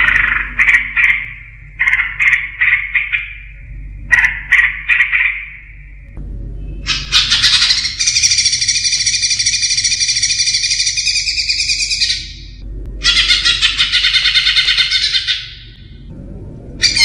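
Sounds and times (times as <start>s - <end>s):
bird trilling song: 0.0s - 6.0s, 6.6s - 16.0s, 16.8s - 17.0s.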